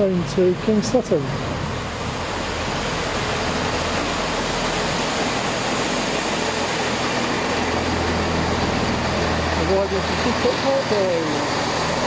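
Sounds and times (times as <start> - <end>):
diesel engine low drone: 0.0 - 12.0
train wheels rushing on rails: 1.1 - 12.0.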